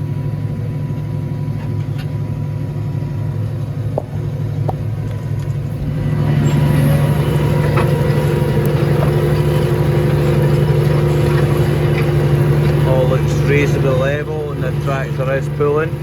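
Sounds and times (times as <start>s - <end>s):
tractor engine under load: 0.0s - 16.0s.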